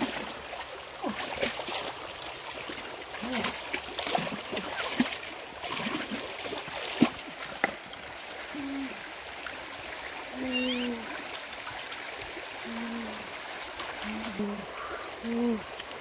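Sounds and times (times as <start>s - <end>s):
stream water trickling: 0.0s - 16.0s
water splashes: 0.0s - 16.0s.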